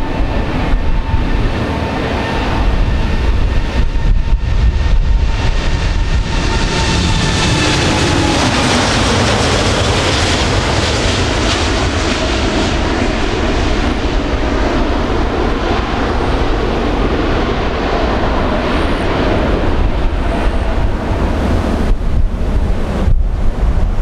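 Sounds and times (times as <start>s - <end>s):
jet airliner taking off: 0.0s - 24.0s.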